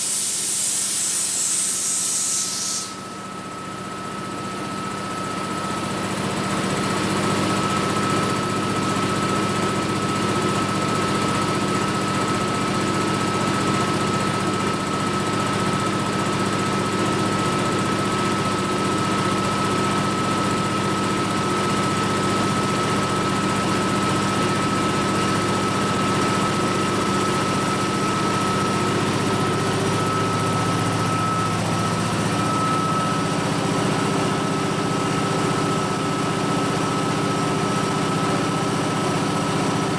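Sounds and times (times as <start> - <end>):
air compressor humming with whine: 0.0 - 39.9.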